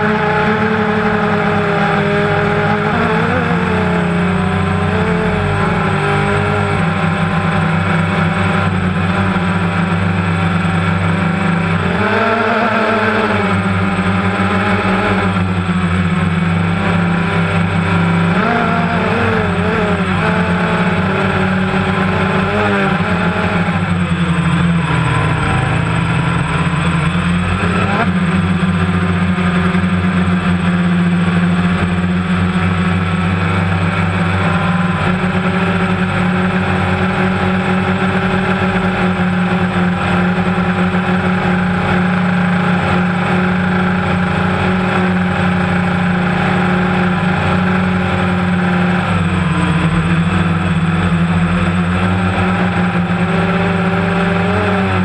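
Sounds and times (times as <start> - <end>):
drone propellers droning: 0.0 - 55.0.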